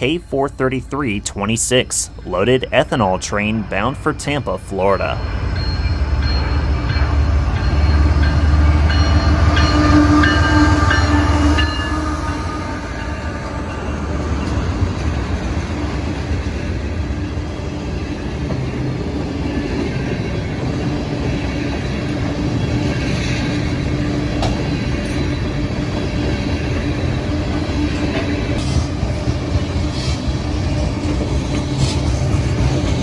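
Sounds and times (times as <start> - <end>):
freight train wheels rumbling: 0.0 - 33.0.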